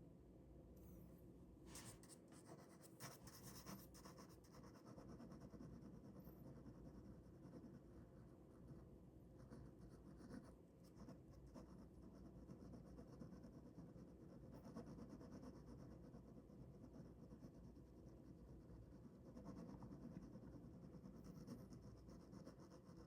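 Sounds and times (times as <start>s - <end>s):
pen scratching on paper: 1.7s - 23.0s.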